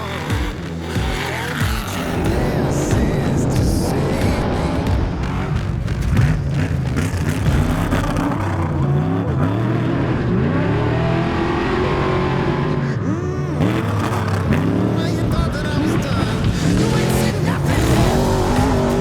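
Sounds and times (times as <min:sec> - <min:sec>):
race truck engine revving: 0:00.0 - 0:19.0.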